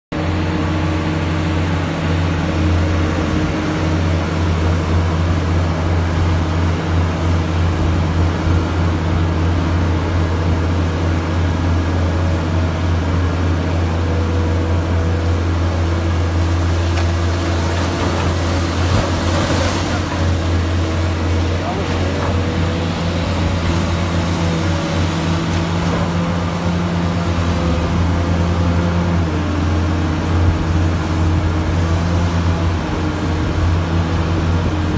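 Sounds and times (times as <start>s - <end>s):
excavator engine drone: 0.1s - 34.9s
mud and water splashing: 0.2s - 34.9s.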